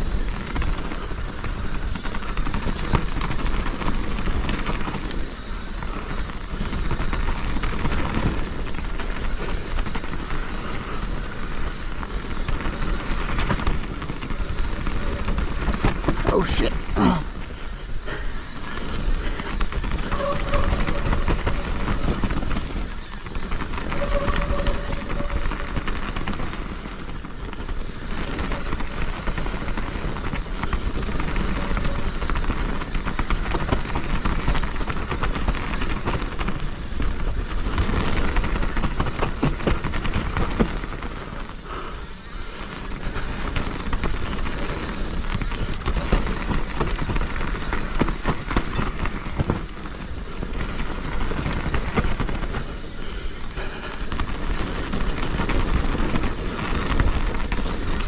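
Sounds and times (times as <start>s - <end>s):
bike rattling over rough ground: 0.0s - 58.0s
tyre and wind noise: 0.0s - 58.0s.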